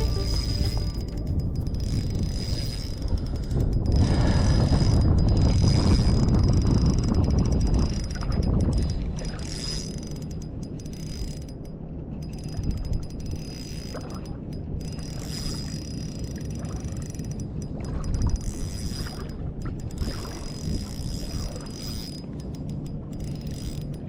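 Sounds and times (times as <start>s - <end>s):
fishing reel winding: 0.0s - 24.0s
wind noise on microphone: 0.0s - 24.0s.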